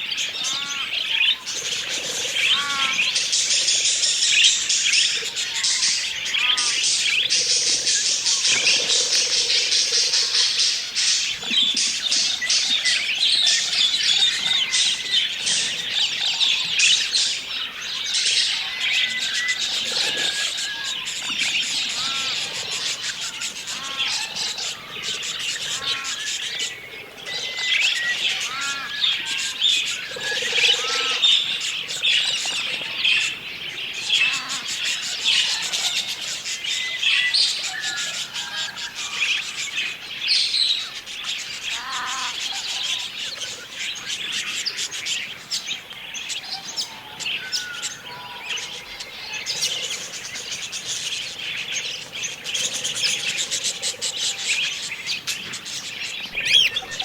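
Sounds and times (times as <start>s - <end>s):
budgerigars chattering: 0.1s - 57.0s.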